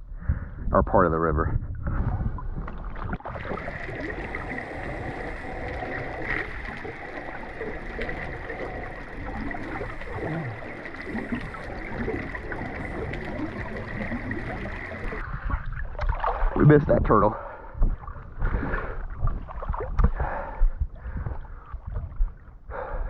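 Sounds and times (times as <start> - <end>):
water sloshing and gurgling: 0.0 - 23.0.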